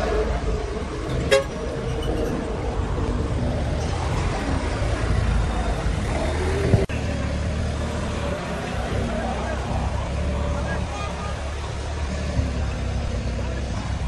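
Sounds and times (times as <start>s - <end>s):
forklift engine running: 0.0s - 14.0s.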